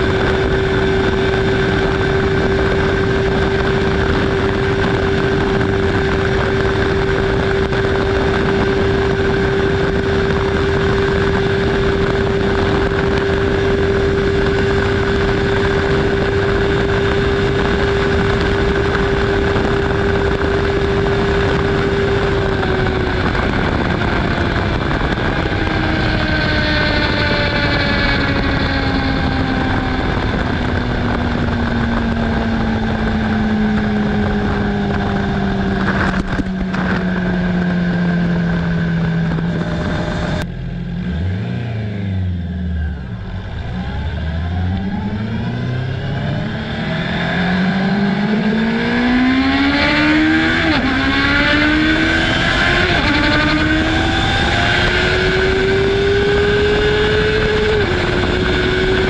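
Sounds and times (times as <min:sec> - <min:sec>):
motorcycle engine revving high: 0:00.0 - 0:59.0
wind rush: 0:00.0 - 0:59.0.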